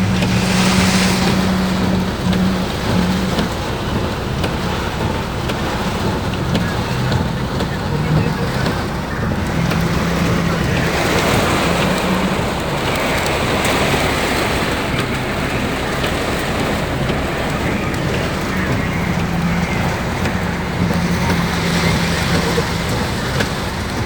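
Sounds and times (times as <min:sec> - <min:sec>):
heavy rain falling: 0:00.0 - 0:24.0
low engine hum: 0:00.0 - 0:24.0.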